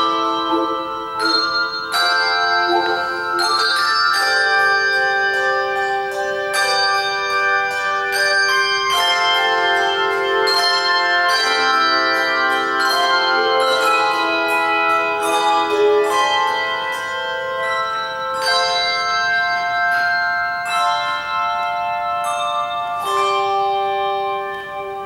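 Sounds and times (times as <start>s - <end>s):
handbell choir playing: 0.0s - 25.0s.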